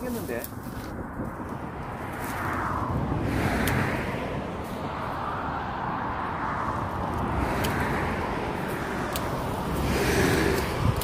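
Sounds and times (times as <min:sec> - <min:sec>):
wind rushing: 0:00.0 - 0:11.0.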